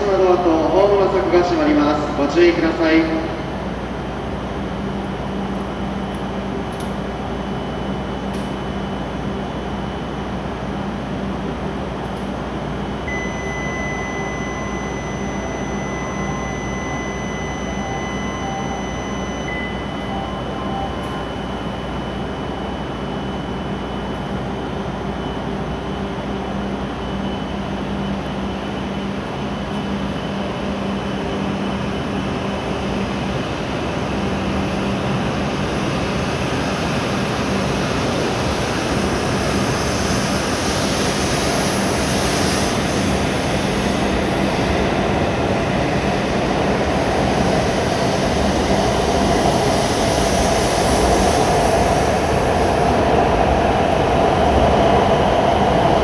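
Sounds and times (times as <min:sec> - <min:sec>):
high-speed train running noise: 0:00.0 - 0:56.0.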